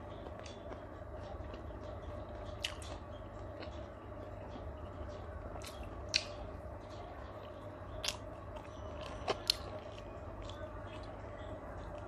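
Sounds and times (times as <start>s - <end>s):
person chewing food: 0.0s - 4.3s, 5.6s - 6.5s, 7.4s - 12.0s
steady background hum: 0.0s - 12.0s.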